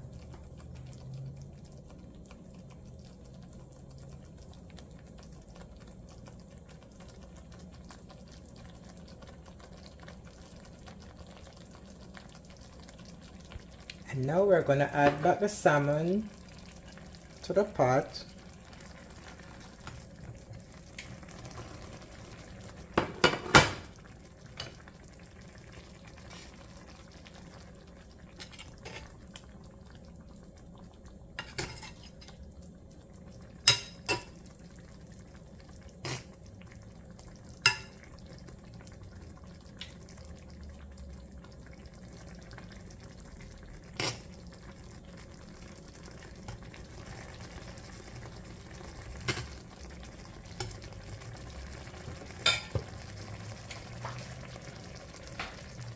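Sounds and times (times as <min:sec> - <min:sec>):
pot bubbling quietly: 0:00.0 - 0:55.9.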